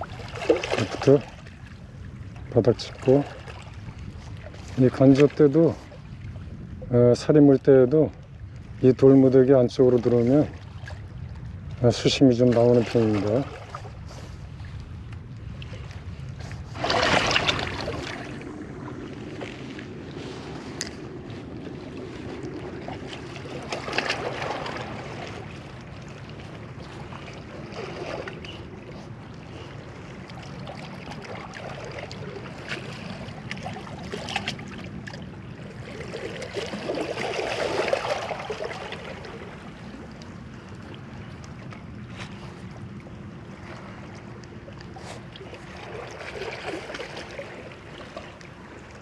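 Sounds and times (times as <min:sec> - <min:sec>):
water noise: 0:00.0 - 0:49.0
wind: 0:00.0 - 0:49.0.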